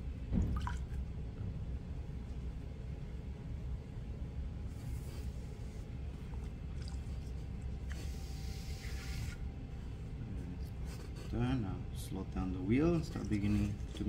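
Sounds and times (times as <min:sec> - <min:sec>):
potter's wheel humming: 0:00.0 - 0:14.0.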